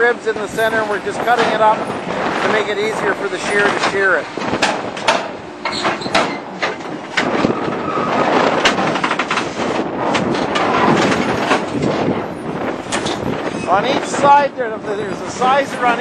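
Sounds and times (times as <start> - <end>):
heavy machinery running: 0.0 - 16.0
metal clanks and bangs: 0.0 - 16.0.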